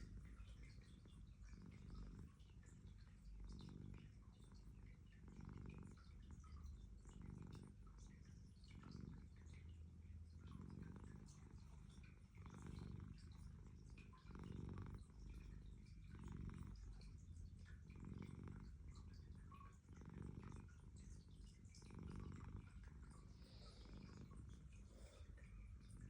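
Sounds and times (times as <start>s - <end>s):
cat snoring: 0.0s - 9.6s, 10.4s - 26.0s.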